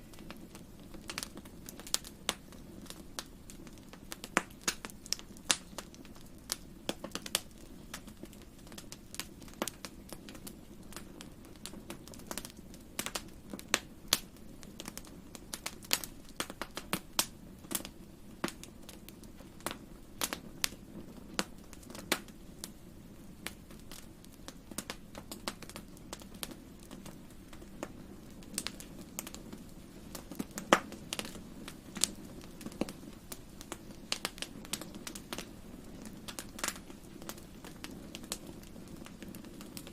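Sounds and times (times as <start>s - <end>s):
fire popping and snapping: 0.0s - 39.9s
low rumble of burning fire: 0.0s - 39.9s
wood fire crackling: 0.0s - 39.9s.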